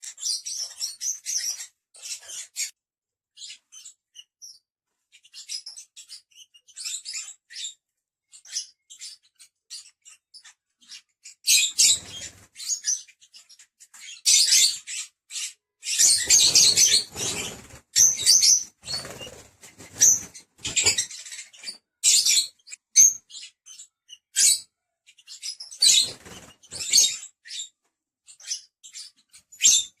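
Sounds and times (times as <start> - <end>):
lovebirds chirping: 0.0 - 2.8, 3.4 - 30.0.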